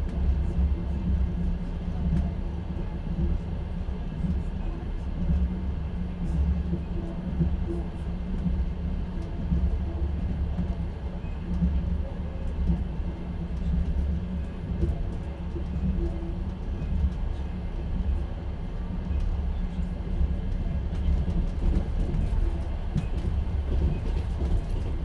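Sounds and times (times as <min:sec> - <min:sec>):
train running rumble: 0:00.0 - 0:25.0.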